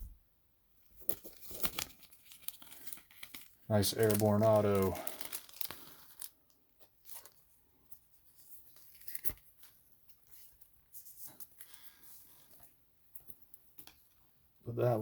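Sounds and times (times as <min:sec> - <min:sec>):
trading cards rustling and clicking: 0:01.0 - 0:07.4, 0:08.3 - 0:14.1.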